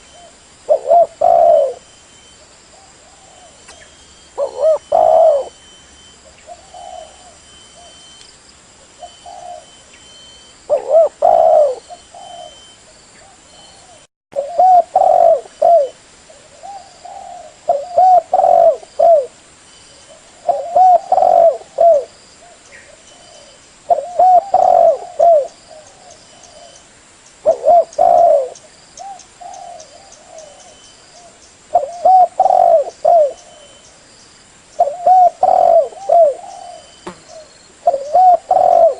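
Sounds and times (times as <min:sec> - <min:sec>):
dove cooing: 0:00.0 - 0:08.1, 0:09.0 - 0:19.4, 0:20.0 - 0:26.8, 0:27.4 - 0:33.8, 0:34.8 - 0:38.9.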